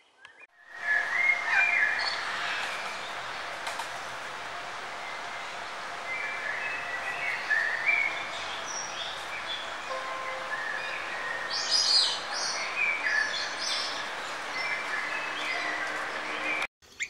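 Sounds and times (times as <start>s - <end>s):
birds chirping and whistling: 0.3s - 3.6s, 4.9s - 16.7s
background hiss: 0.7s - 17.0s.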